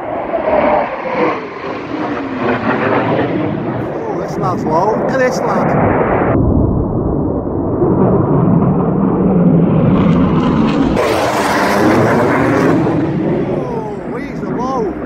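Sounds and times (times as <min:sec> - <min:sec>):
fighter jet flying overhead: 0:00.0 - 0:15.0.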